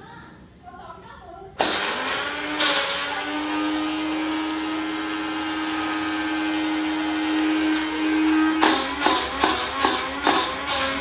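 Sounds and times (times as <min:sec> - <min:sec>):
blender grinding eggshells: 0:01.6 - 0:11.0.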